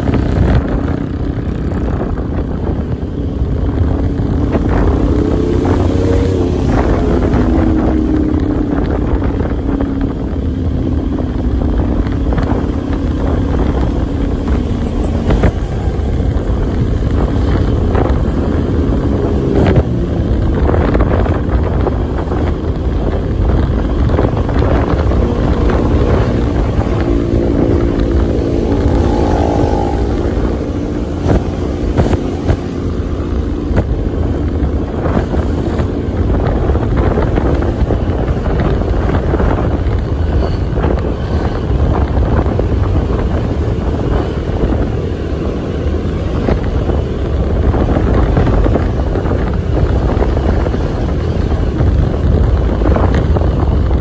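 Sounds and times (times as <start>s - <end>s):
engine tone wavering: 0.0s - 53.5s
road traffic noise: 0.0s - 54.0s
wind on microphone: 0.0s - 54.0s.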